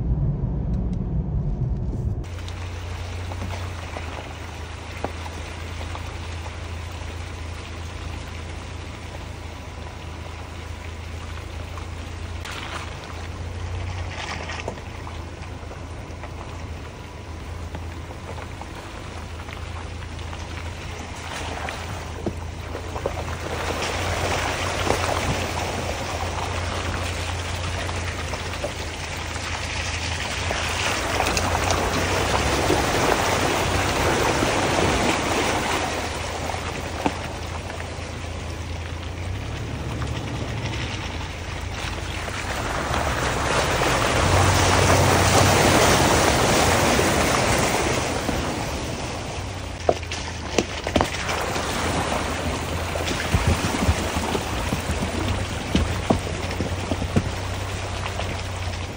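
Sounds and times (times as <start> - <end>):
truck engine drone: 0.0 - 58.9
water and mud splashing: 2.2 - 58.9.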